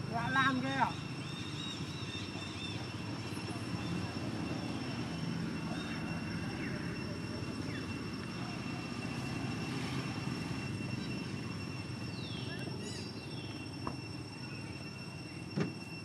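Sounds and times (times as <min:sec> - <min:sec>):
distant engine rumble: 0:00.0 - 0:16.0
faint high-pitched whine: 0:00.0 - 0:16.0.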